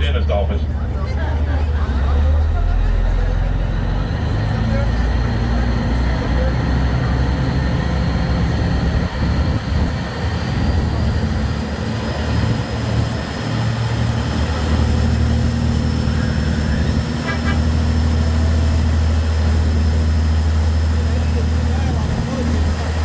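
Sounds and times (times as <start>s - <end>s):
boat engine drone: 0.0s - 23.0s
steady rushing noise: 1.6s - 23.0s.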